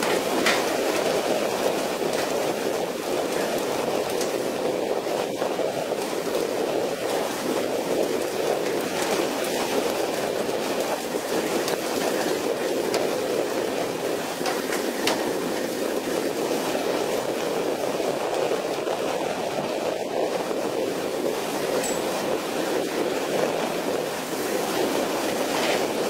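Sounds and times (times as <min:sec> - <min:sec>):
rough sea rushing: 0:00.0 - 0:26.0.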